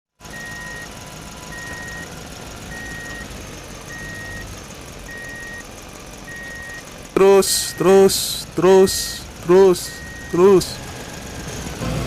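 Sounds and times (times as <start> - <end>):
truck reversing alarm beeping: 0.2 - 12.0.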